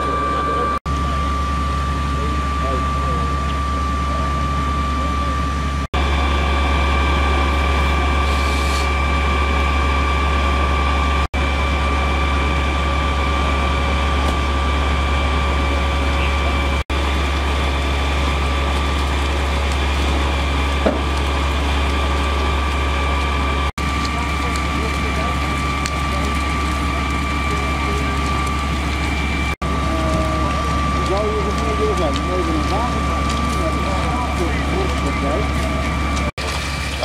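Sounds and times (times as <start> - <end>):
building fire crackling: 0.0 - 37.0
fire engine pump droning: 0.0 - 37.0.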